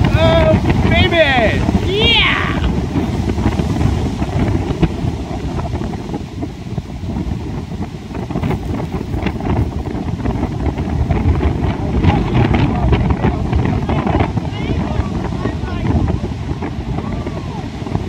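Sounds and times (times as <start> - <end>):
heavy surf breaking: 0.0 - 18.0
wind buffeting microphone: 0.0 - 18.0.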